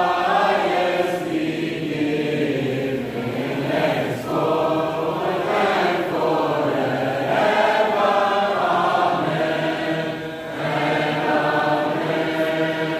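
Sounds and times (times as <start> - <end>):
group of voices singing: 0.0 - 12.9.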